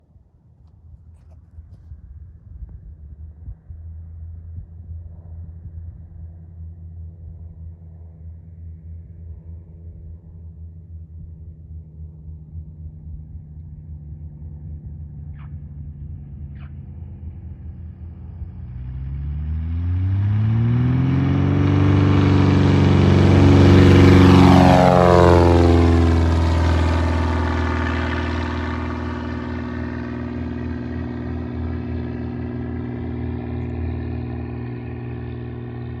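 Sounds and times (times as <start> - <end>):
propeller plane passing: 0.2 - 36.0.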